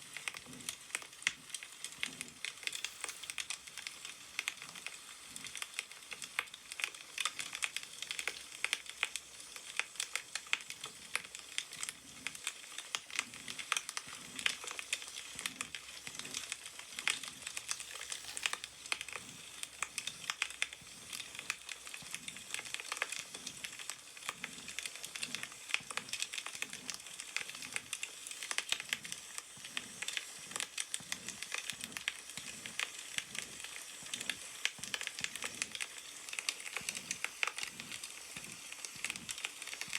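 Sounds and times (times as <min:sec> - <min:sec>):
wood fire crackling: 0:00.2 - 0:39.9.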